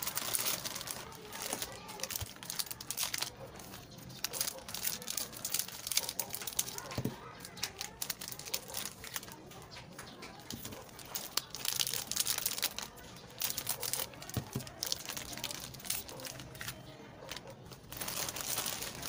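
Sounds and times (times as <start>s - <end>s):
plastic wrappers crinkling and tearing: 0.0s - 19.0s.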